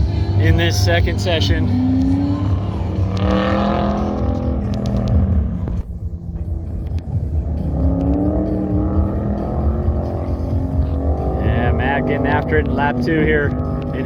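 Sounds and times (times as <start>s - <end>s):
truck engine accelerating: 0.0s - 14.0s.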